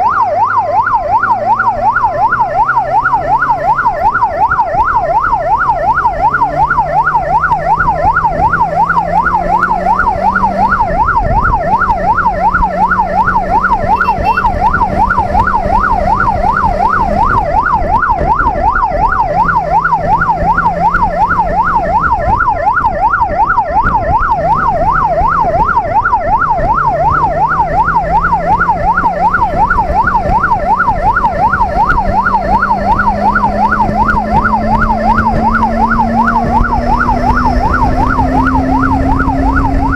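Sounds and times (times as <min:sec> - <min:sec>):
police siren yelp: 0:00.0 - 0:39.9
motorcycle engine revving through gears: 0:00.8 - 0:17.6, 0:18.2 - 0:22.3, 0:24.2 - 0:39.9.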